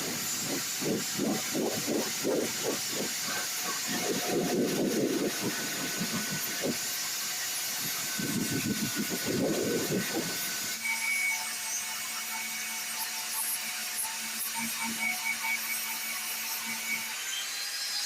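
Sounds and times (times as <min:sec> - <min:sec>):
small electric tool humming: 0:00.0 - 0:18.0.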